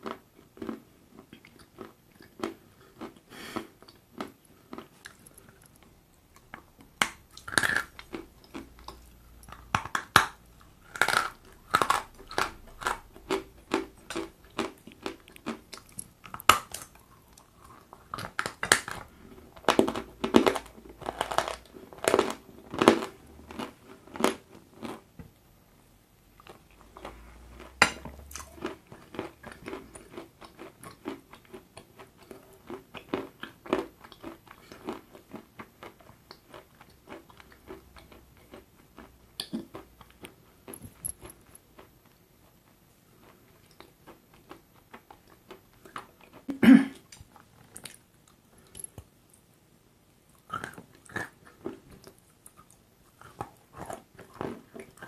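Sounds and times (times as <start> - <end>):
person chewing crunchy food: 0.0 - 25.2, 26.3 - 49.1, 50.3 - 55.0.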